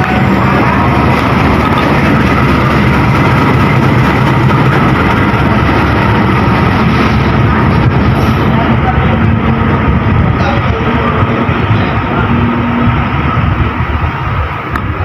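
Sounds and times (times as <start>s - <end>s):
diesel locomotive engine drone: 0.0s - 15.0s
rushing noise: 0.0s - 15.0s.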